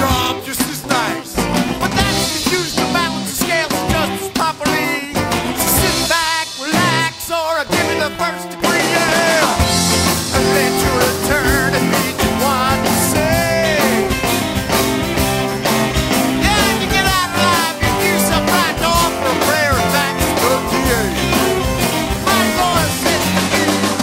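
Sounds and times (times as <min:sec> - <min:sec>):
rock and roll band playing: 0:00.0 - 0:24.0
wavering lead guitar line: 0:00.0 - 0:24.0.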